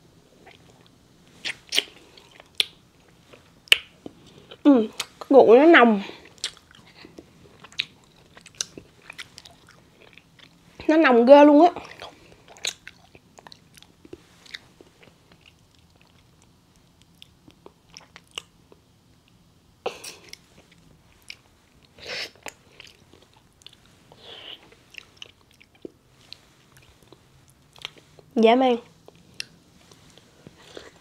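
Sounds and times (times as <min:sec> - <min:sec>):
person chewing: 0:00.4 - 0:05.3, 0:06.2 - 0:10.6, 0:11.8 - 0:28.3, 0:28.9 - 0:31.0.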